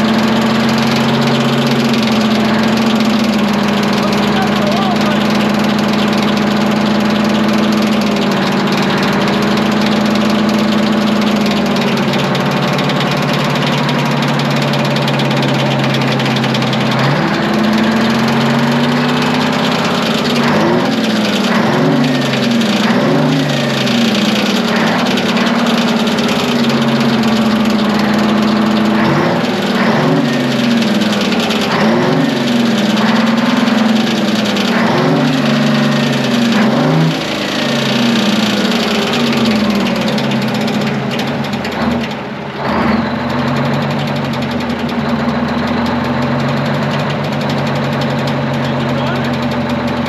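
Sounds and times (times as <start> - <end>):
diesel engine revving: 0.0 - 50.0.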